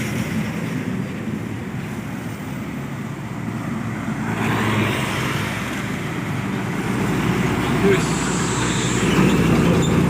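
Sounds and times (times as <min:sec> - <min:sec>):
road or wind noise: 0:00.0 - 0:10.0
vehicle engine drone: 0:00.0 - 0:10.0.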